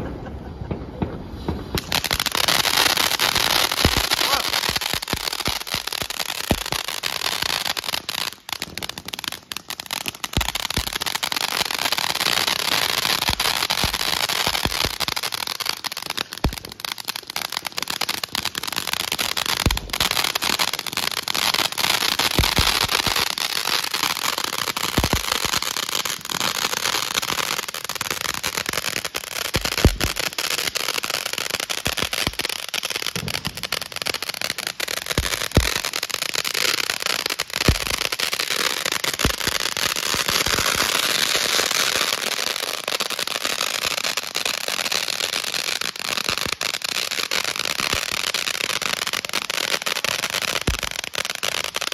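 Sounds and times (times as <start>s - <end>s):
firework hissing and crackling: 0.0s - 51.9s.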